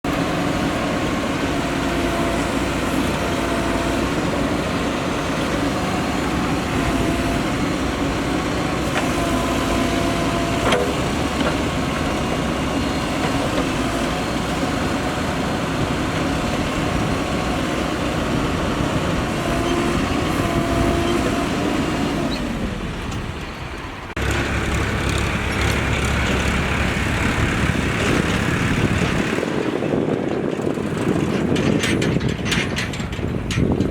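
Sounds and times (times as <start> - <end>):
backhoe diesel engine under load: 0.0 - 33.9
deeper engine rumble: 0.0 - 33.9.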